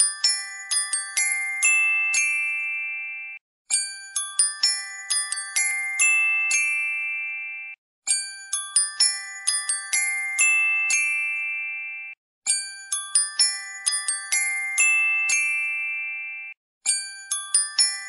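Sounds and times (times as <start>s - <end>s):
tinkling bell chime music: 0.0s - 18.0s.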